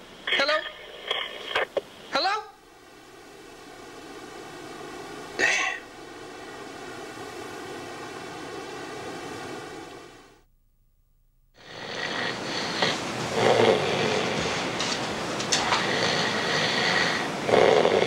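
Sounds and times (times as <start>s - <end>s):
rushing wind-like noise: 0.0s - 10.4s, 11.6s - 18.0s
steady hiss: 0.0s - 10.5s, 11.5s - 18.0s
faint buzzing hum: 0.0s - 18.0s.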